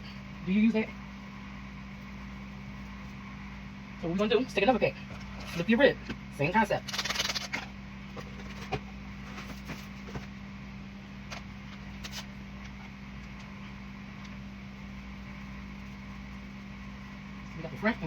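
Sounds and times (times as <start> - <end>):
low hum of a fan: 0.0 - 18.0.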